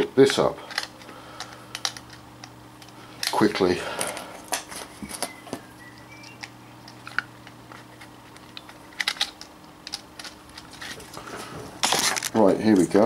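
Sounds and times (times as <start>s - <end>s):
faint steady hum: 0.0s - 13.0s
small parts clicking and tapping: 0.2s - 11.0s.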